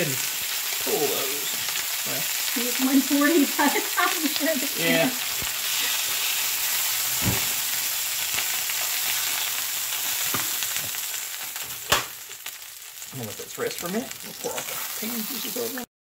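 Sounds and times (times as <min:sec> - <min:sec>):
steaks sizzling in a skillet: 0:00.0 - 0:15.9.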